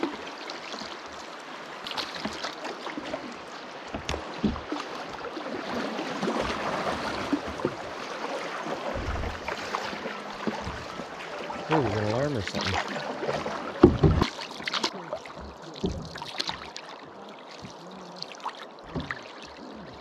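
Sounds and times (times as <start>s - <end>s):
water splashing around a canoe: 0.0s - 20.0s.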